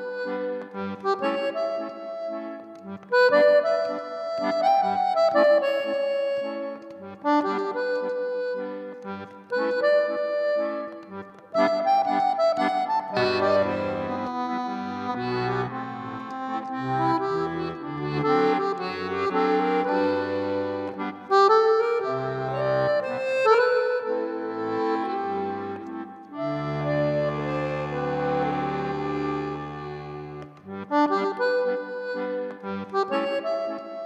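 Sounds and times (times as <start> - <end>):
instrumental music: 0.0 - 34.0.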